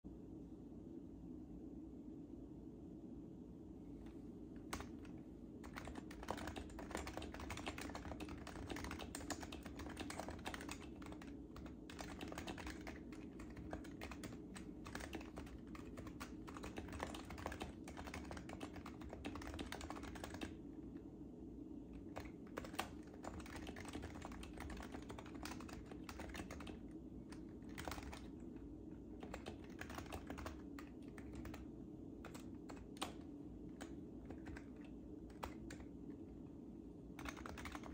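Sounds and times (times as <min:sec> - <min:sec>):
fast keyboard typing: 0:04.6 - 0:20.6, 0:21.9 - 0:36.2, 0:37.1 - 0:37.9.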